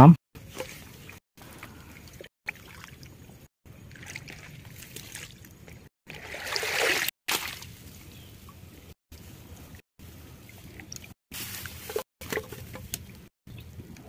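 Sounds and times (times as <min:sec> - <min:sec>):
water sloshing and splashing: 0:00.4 - 0:13.9.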